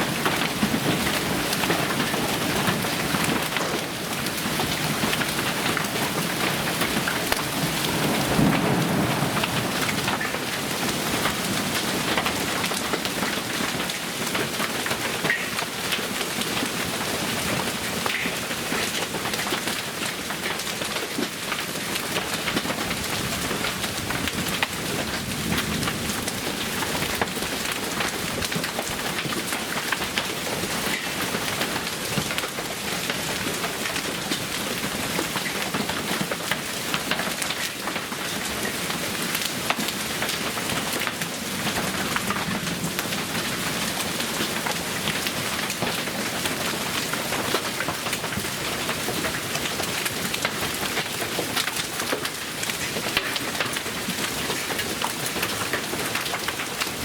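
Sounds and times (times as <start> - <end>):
heavy rain pelting surfaces: 0.0 - 57.0.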